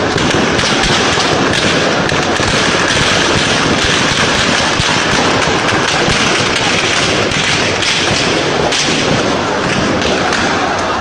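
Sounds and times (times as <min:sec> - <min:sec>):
dense gunfire crackling: 0:00.0 - 0:11.0.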